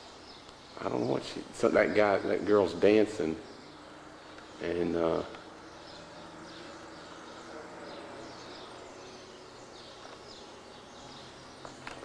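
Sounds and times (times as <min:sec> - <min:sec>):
low steady background hiss: 0:00.0 - 0:12.0
small birds chirping: 0:00.0 - 0:12.0.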